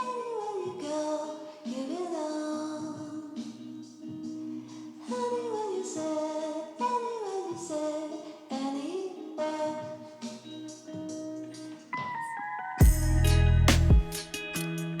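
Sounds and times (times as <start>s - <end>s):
background music with vocals: 0.0s - 15.0s.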